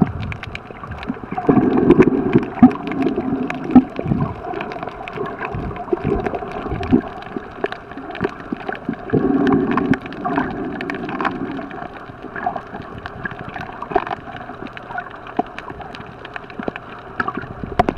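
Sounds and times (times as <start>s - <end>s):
gurgling water rush: 0.0s - 17.9s
small clicks and crackles: 0.0s - 17.9s
underwater watery wash: 0.0s - 17.9s.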